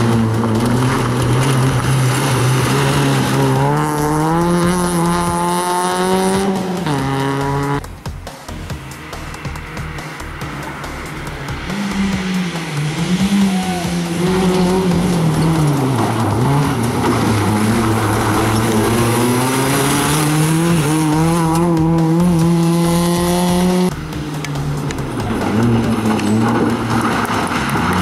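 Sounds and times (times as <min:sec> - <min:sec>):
rally car engine under load: 0:00.0 - 0:28.0.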